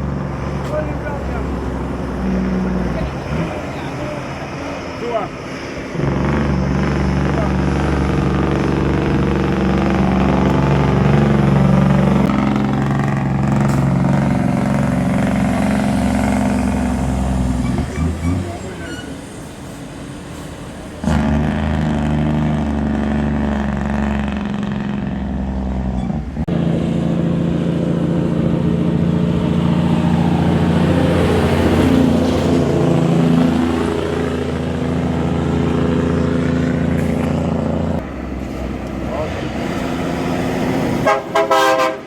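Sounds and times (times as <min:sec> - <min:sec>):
vehicle engine droning: 0:00.0 - 0:42.0.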